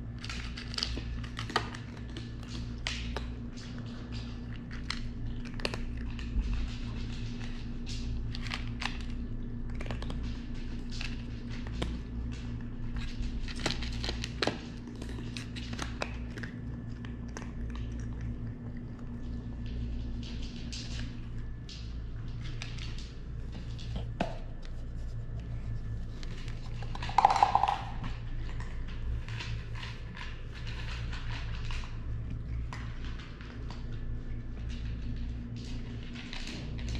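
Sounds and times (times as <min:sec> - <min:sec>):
cat chewing: 0:00.0 - 0:36.9
steady low hum: 0:00.0 - 0:36.9.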